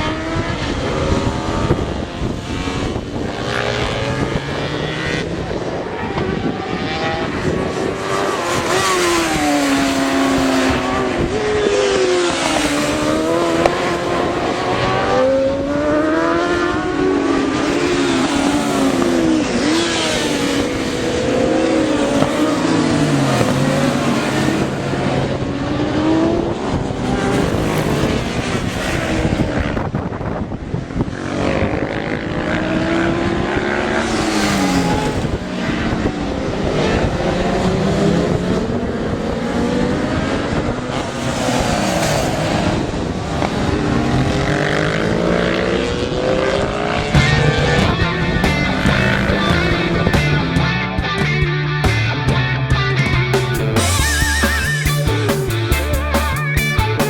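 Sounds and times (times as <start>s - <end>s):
racing motorcycle engines revving: 0.0s - 57.0s.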